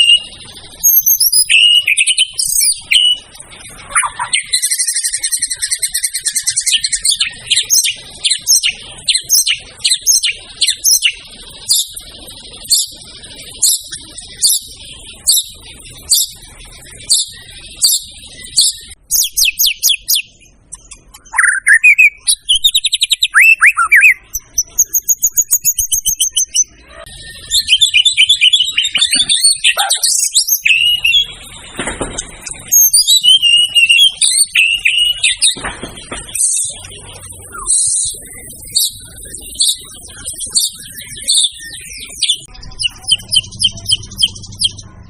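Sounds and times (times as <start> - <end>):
songbird singing varied song: 0.0 - 45.0.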